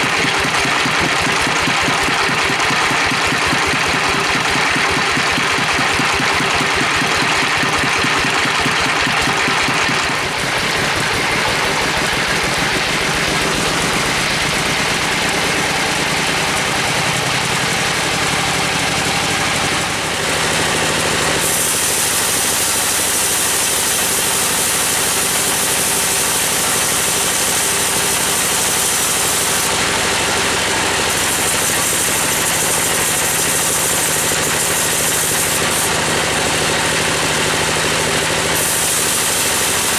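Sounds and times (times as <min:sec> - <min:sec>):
sawing machine engine running: 0:00.0 - 0:39.9.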